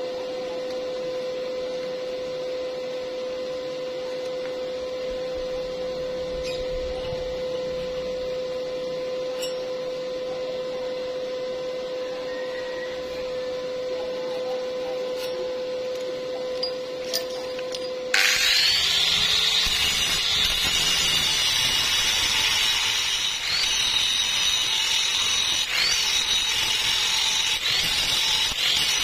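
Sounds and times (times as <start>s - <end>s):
steady mid-pitched hum: 0.0s - 27.7s.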